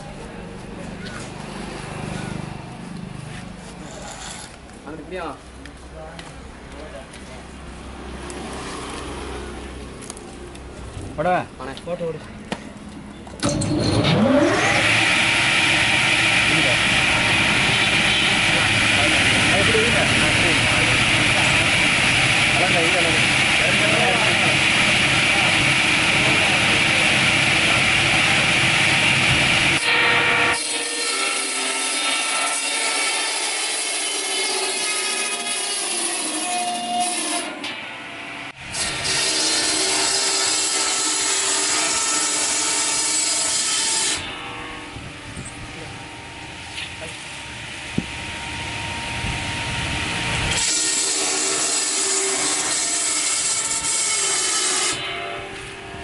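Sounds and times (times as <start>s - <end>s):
circular saw cutting log: 0.7s - 5.0s, 13.5s - 45.0s, 45.8s - 56.0s.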